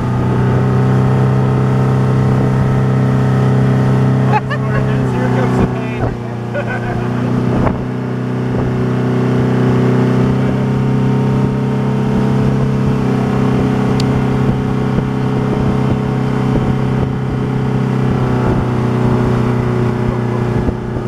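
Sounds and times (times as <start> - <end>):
motorboat engine running: 0.0 - 21.0
rush of boat wake: 0.0 - 21.0
wind: 0.0 - 21.0.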